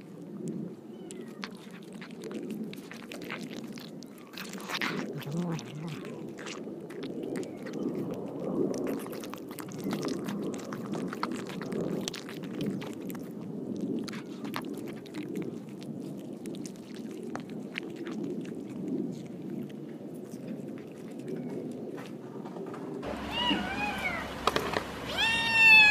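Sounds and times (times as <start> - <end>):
sharp clicks of teeth and tongues: 0.0 - 22.2
cats chewing and licking food: 0.0 - 25.9.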